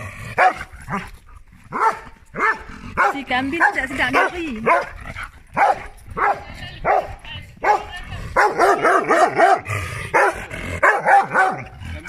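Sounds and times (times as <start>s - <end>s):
dog barking: 0.4s - 1.0s, 1.7s - 5.0s, 5.6s - 11.8s.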